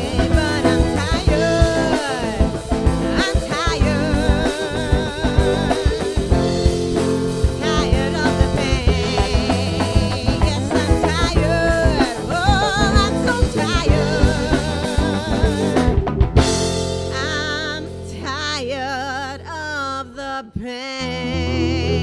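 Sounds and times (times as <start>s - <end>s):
drum kit: 0.0s - 18.4s
vibrato melody line: 0.0s - 19.2s
organ: 0.0s - 19.4s
bass guitar: 0.0s - 22.0s
electric guitar: 0.0s - 22.0s.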